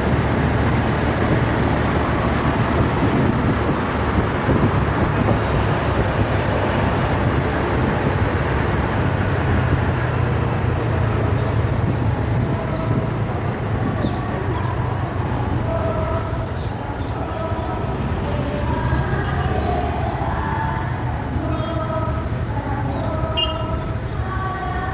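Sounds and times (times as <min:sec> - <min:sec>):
vehicle rumble and hiss: 0:00.0 - 0:24.9.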